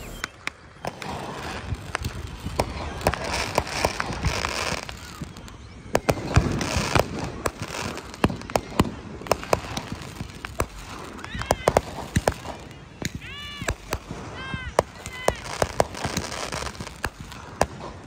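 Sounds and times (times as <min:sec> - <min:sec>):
fireworks bangs and pops: 0:00.0 - 0:18.0
fireworks crackling hiss: 0:00.0 - 0:18.0.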